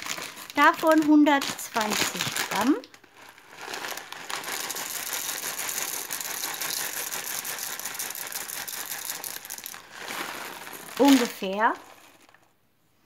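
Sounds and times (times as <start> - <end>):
dry pasta pattering into bowl: 0.0 - 12.6
plastic bag crinkling: 0.0 - 12.6.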